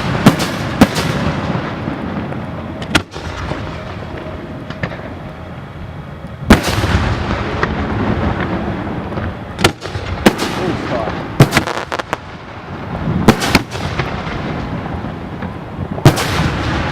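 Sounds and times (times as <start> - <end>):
faint fireworks cracks: 0.0 - 16.9
rumbling crackle: 0.0 - 16.9.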